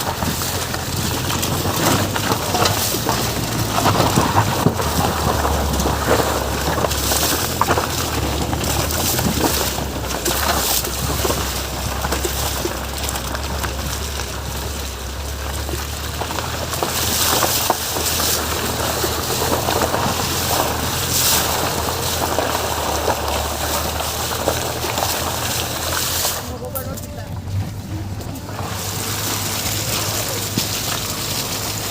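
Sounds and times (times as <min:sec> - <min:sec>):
loud uneven rushing noise: 0:00.0 - 0:31.9
low engine drone: 0:00.0 - 0:31.9.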